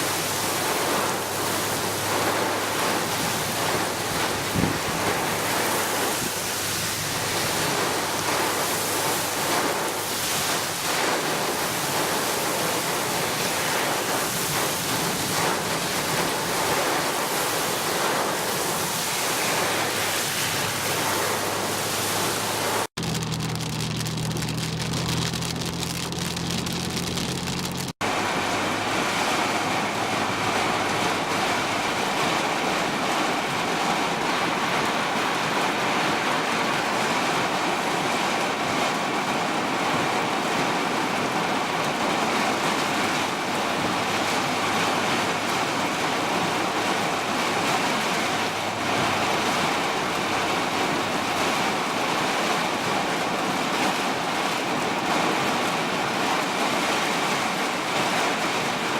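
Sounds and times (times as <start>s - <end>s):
low engine hum: 0.0s - 36.1s, 38.0s - 53.2s
heavy rain falling: 0.0s - 58.9s.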